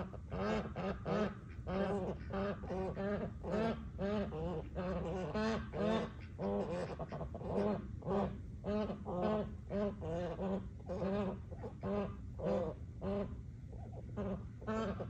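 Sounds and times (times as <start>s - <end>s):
waterfowl honking calls: 0.0s - 15.0s.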